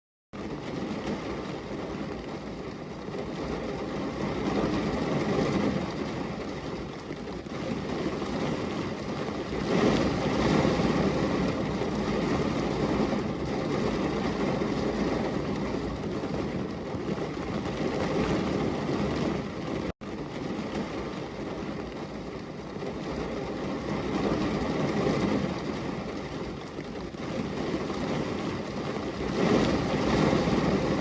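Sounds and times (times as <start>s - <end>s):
thunder rumbling: 0.5s - 31.0s.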